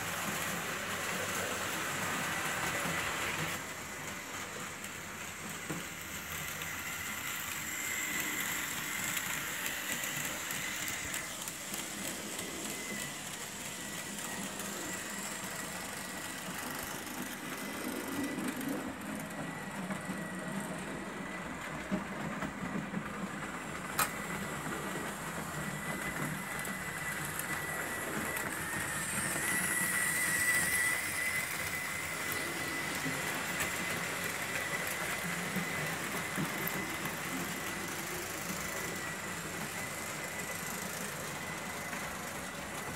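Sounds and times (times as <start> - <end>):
model train motor whine: 0.0 - 42.9
wheels rolling on track: 0.0 - 42.9.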